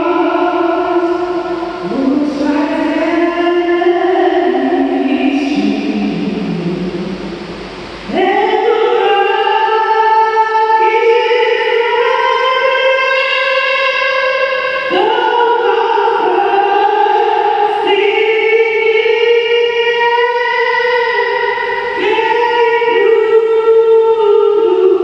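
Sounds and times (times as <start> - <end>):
woman singing through speakers: 0.0 - 25.0.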